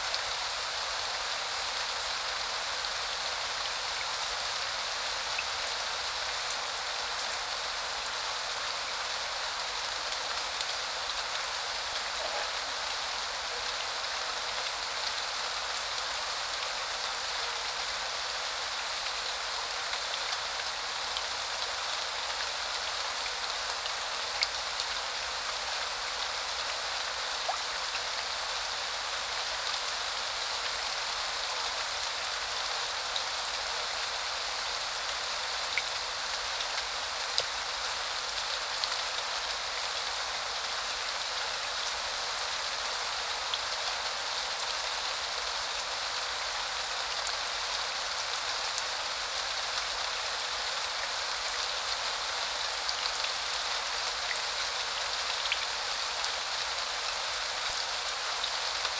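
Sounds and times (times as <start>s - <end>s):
rain pattering on surfaces: 0.0s - 58.9s.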